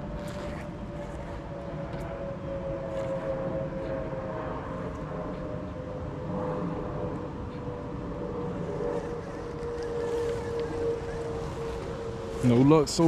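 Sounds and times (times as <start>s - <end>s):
motor humming with whine: 0.0s - 13.0s.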